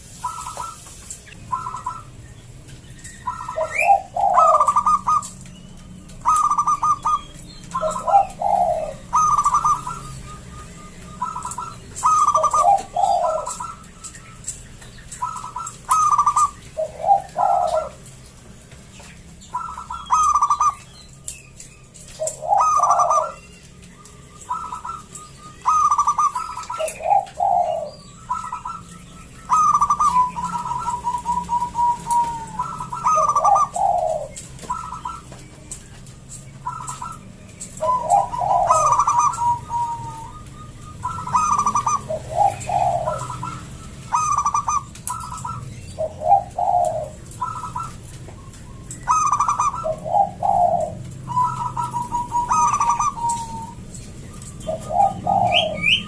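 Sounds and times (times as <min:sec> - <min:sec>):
dove cooing trills: 0:00.0 - 0:56.0.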